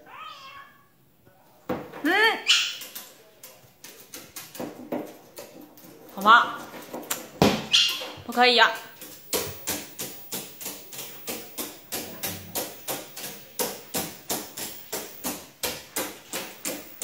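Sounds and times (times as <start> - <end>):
parrot hopping taps: 1.7 - 17.0.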